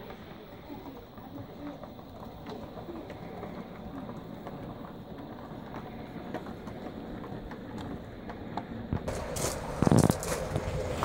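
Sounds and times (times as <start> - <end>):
model train wheels and motors rumbling: 0.0 - 11.0
wheels clicking over track: 0.0 - 11.0.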